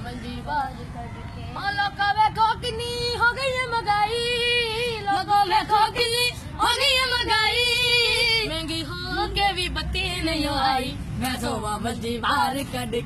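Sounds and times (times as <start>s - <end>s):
boy singing unaccompanied: 0.0s - 13.0s.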